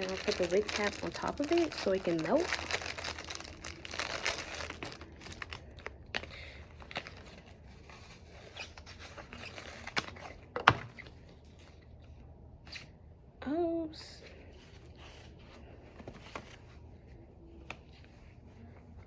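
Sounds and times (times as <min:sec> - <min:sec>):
rustling and crinkling of wig cap: 0:00.0 - 0:13.1, 0:14.1 - 0:19.0.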